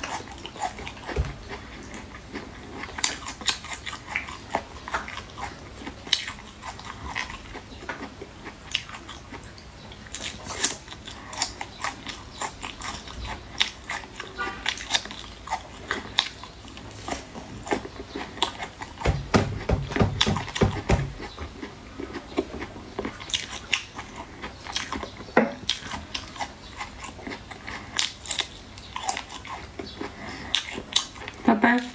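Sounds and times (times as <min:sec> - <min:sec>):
chewing with wet mouth clicks: 0:00.0 - 0:31.9.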